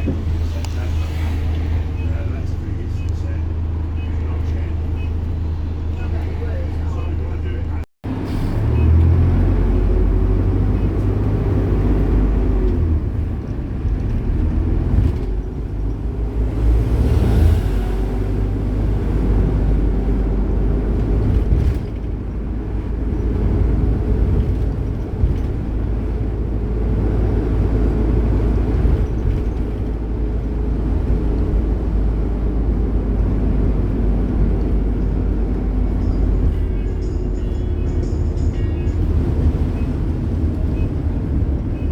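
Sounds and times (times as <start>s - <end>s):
bus engine running: 0.0s - 41.9s
road rumble: 0.0s - 41.9s.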